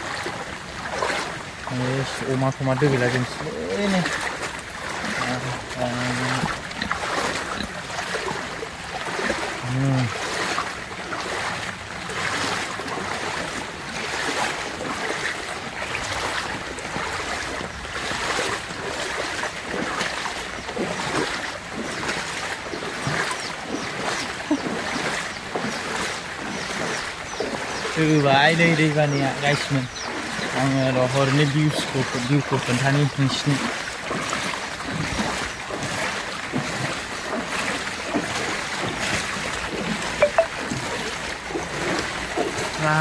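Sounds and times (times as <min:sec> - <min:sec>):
floodwater rushing: 0:00.0 - 0:43.0.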